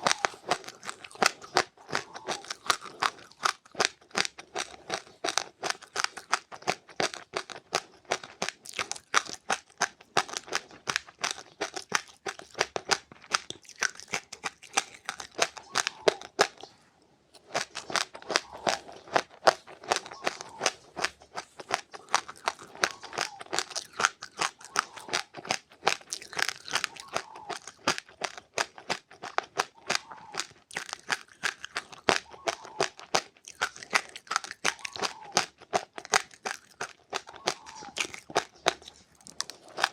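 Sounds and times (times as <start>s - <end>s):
chewing dry seeds crunching: 0.0s - 39.9s.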